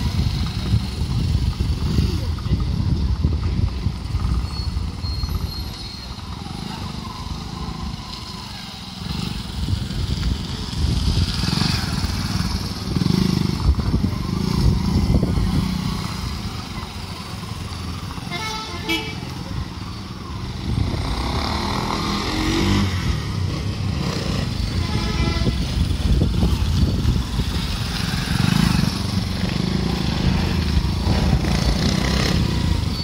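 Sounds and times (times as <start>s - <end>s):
small motorcycle engines revving: 0.0s - 33.0s.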